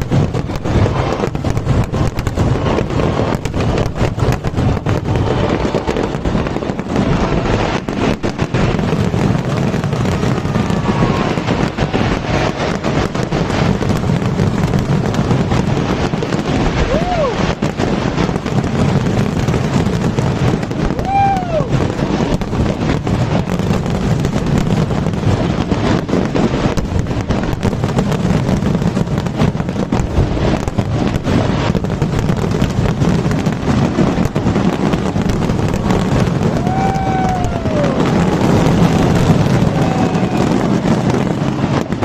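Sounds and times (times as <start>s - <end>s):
fireworks crackling and booming: 0.0s - 42.0s.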